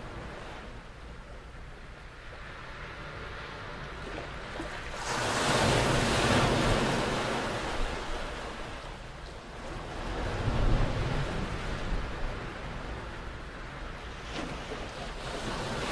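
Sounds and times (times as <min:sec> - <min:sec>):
small waves washing ashore: 0:00.0 - 0:15.9.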